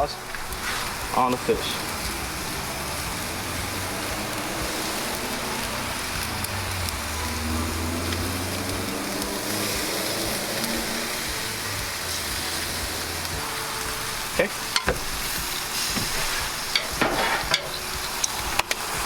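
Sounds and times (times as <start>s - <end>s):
fish sizzling on a grill: 0.0s - 19.0s.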